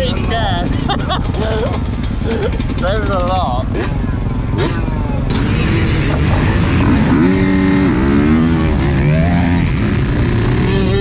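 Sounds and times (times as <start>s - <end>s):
engine revving: 0.0s - 11.0s
motocross bike engines running: 0.0s - 11.0s.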